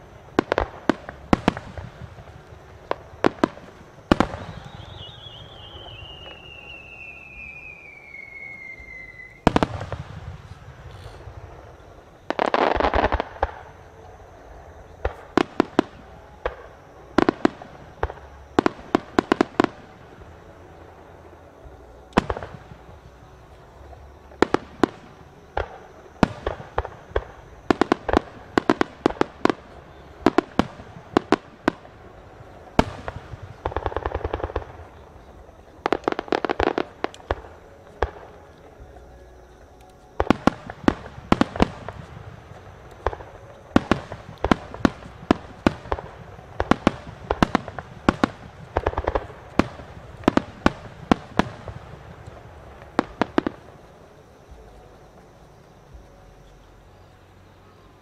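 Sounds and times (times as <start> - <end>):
dense firework crackling: 0.0 - 56.8.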